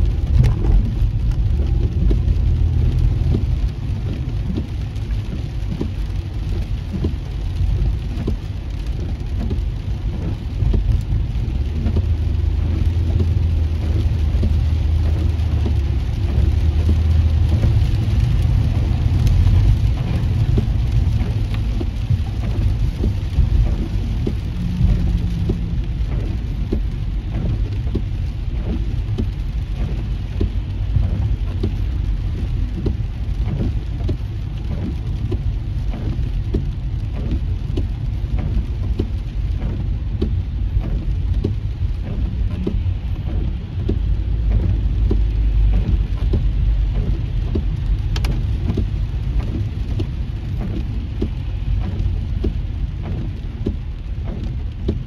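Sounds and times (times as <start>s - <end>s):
rain hitting car roof: 0.0s - 55.0s
tyre and road rumble: 0.0s - 55.0s.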